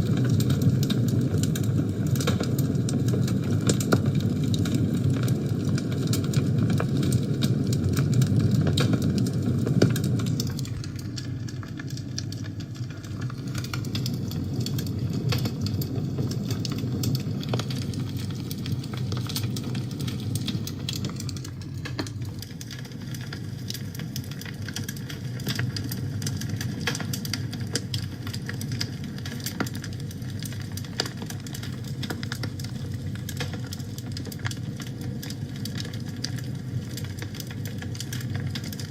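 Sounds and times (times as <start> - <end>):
fire crackles and pops: 0.0 - 38.9
low rumble of flames: 0.0 - 38.9.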